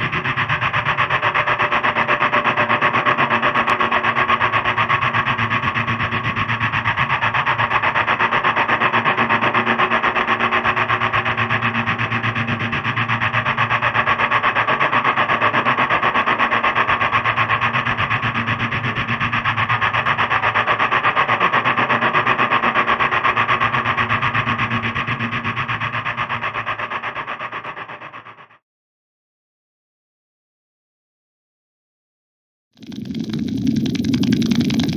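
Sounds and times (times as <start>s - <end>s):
drone propellers buzzing: 0.0s - 28.2s.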